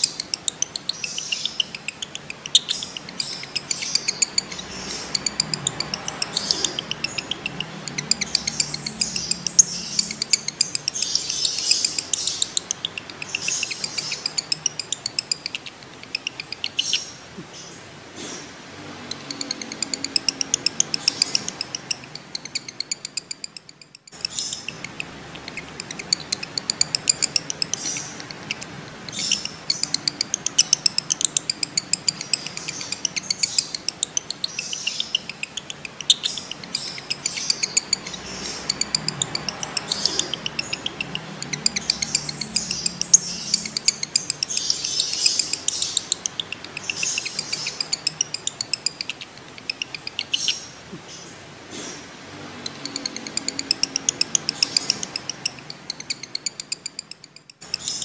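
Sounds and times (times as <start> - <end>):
lovebird chattering high chirps: 0.0 - 18.4, 19.0 - 58.0.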